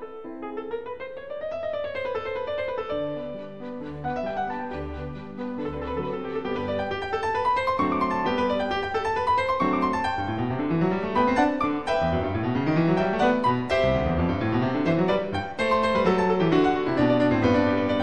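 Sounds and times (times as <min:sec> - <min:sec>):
solo classical piano: 0:00.0 - 0:18.0.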